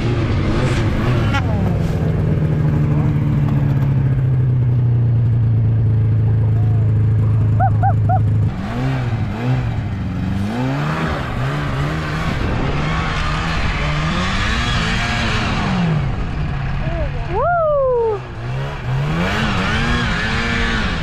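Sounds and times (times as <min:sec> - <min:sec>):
snowmobile engine revving: 0:00.0 - 0:04.4, 0:05.9 - 0:21.0.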